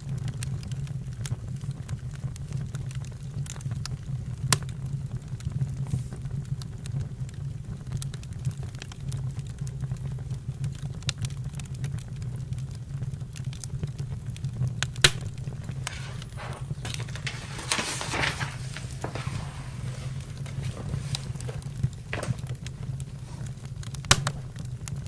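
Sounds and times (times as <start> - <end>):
campfire crackling and popping: 0.0 - 25.0
low fire rumble: 0.0 - 25.0
fire hissing: 0.1 - 25.0.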